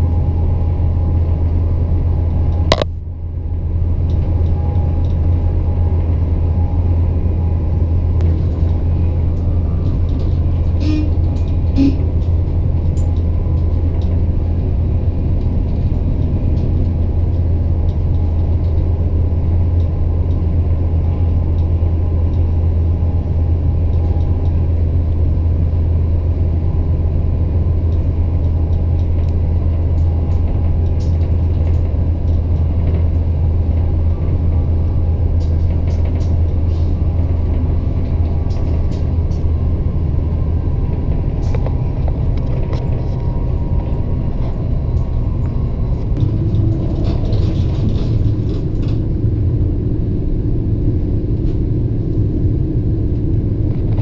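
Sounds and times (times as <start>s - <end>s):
train rumble from inside car: 0.0s - 54.0s.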